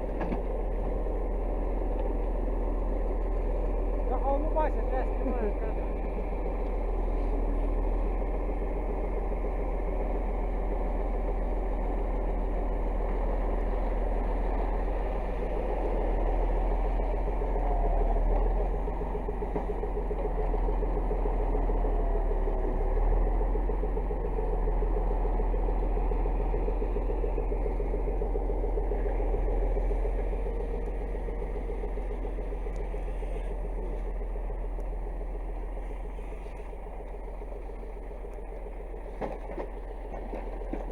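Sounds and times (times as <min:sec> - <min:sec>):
tractor diesel engine rattling: 0:00.0 - 0:40.9.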